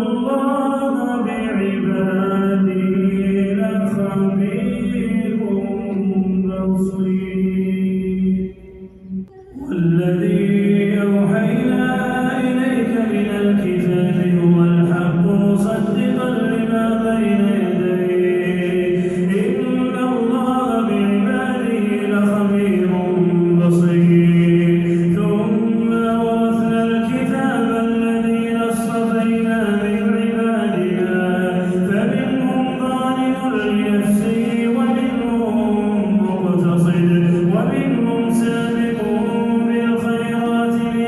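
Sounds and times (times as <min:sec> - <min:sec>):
man chanting melodically: 0:00.0 - 0:41.0.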